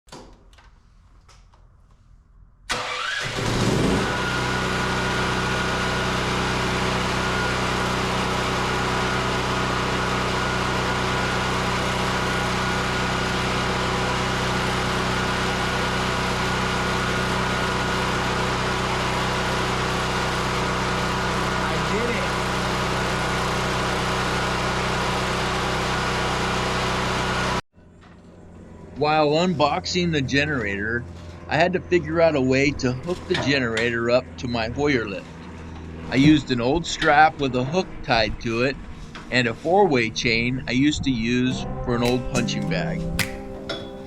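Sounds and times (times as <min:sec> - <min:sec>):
generator engine starting and running: 0:02.7 - 0:44.0.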